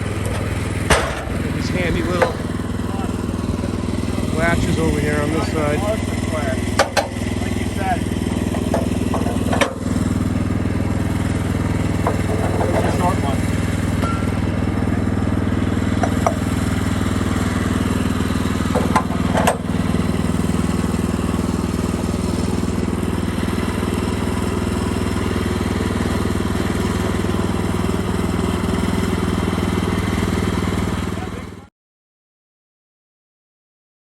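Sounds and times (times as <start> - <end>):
sawmill engine running: 0.0 - 31.7.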